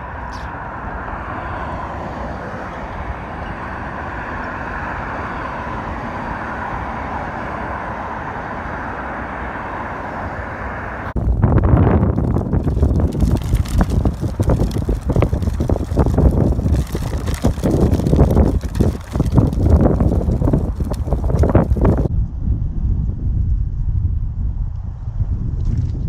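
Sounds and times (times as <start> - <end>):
car road and engine noise: 0.0 - 26.0
wind buffeting microphone: 0.0 - 26.0.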